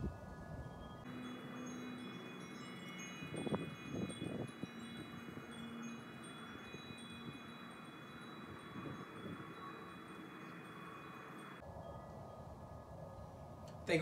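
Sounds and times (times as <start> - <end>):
wind chimes ringing: 0.1 - 13.0.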